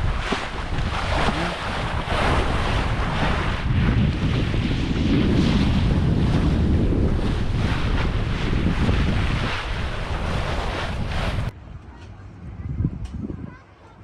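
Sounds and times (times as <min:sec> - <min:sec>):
water splashing along hull: 0:00.0 - 0:11.5
wind buffeting microphone: 0:00.0 - 0:13.6.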